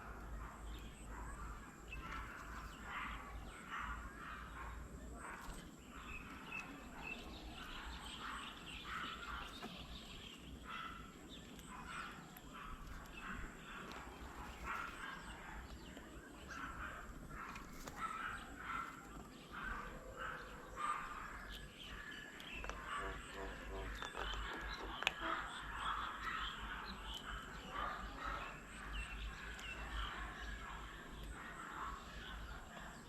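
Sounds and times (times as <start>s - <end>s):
birds calling and chattering: 0.0s - 33.0s.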